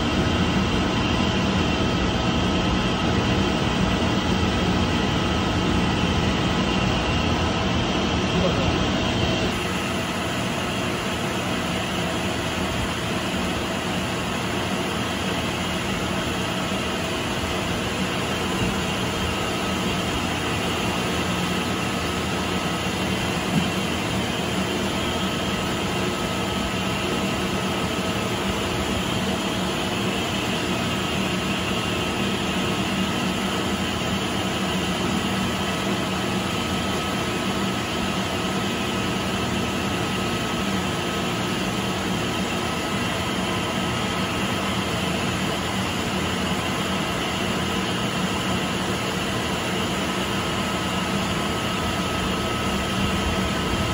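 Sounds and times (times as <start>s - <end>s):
pump motor drone: 0.0s - 53.9s.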